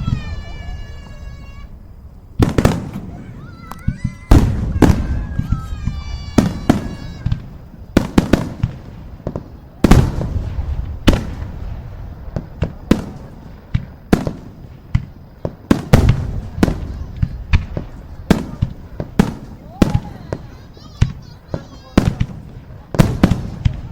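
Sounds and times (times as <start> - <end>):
fireworks bangs: 0.0 - 23.9.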